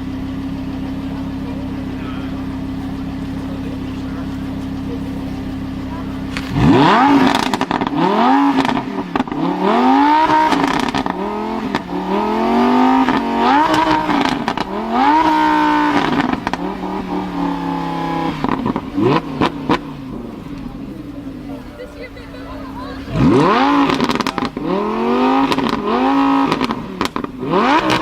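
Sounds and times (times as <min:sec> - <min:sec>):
car engine revving: 0:00.0 - 0:28.0
exhaust crackles: 0:00.0 - 0:28.0.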